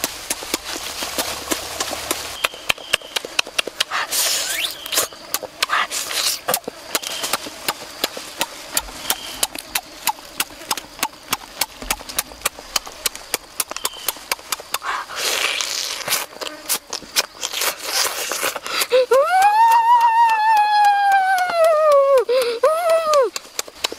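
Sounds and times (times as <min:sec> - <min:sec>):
wet chewing and lip-smacking: 0:00.0 - 0:23.9
mouth clicks: 0:02.4 - 0:23.9.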